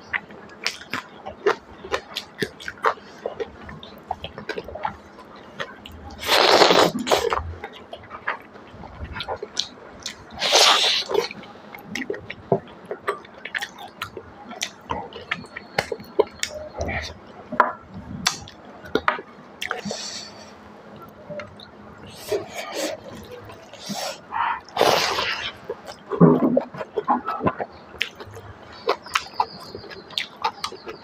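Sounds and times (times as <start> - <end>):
wet chewing and lip smacks: 0.0 - 31.0.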